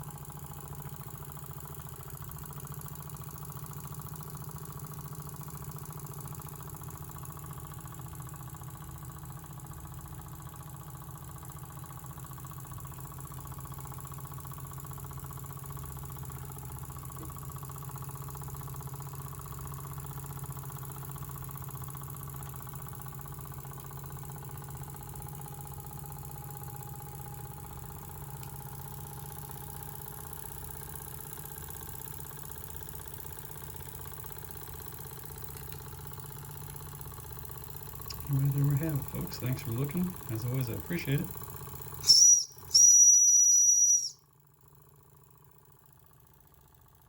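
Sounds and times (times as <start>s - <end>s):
small steam engine running: 0.0s - 44.2s.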